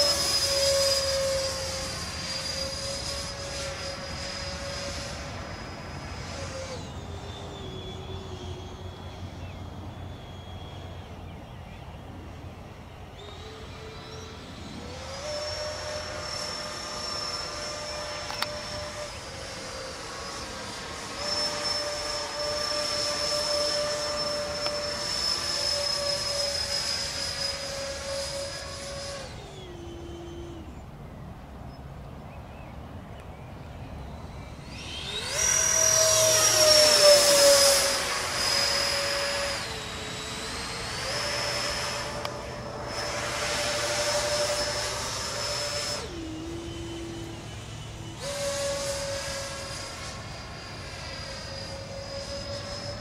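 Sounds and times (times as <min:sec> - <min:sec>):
electric ducted fans whining: 0:00.0 - 0:53.0.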